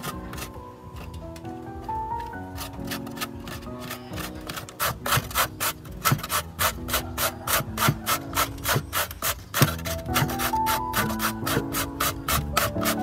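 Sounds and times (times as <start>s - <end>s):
rhythmic scraping strokes: 0.0s - 13.0s
soft background music: 0.0s - 13.0s.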